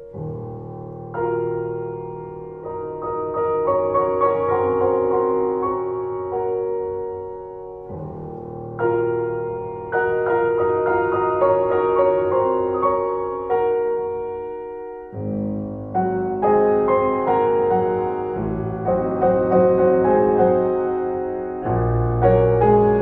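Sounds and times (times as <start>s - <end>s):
gentle piano melody: 0.0s - 23.0s.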